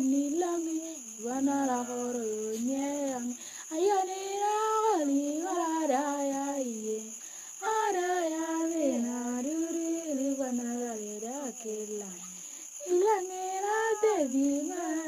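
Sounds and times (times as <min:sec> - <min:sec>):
girl singing solo: 0:00.0 - 0:15.0.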